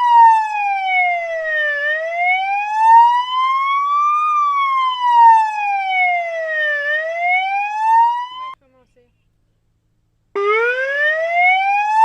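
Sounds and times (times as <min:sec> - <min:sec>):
police siren wailing: 0:00.0 - 0:08.6, 0:10.4 - 0:12.0.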